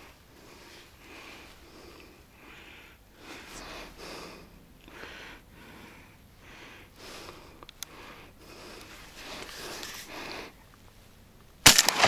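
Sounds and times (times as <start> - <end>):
person breathing and sniffing: 0.0 - 10.6.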